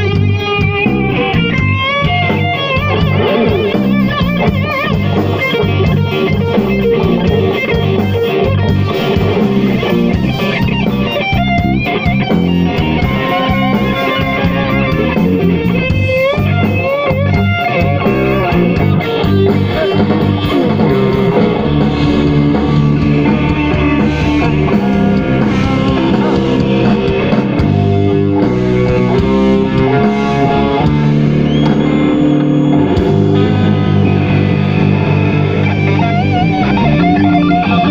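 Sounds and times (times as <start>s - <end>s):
lead guitar bending notes: 0.0s - 37.9s
live rock band playing: 0.0s - 37.9s.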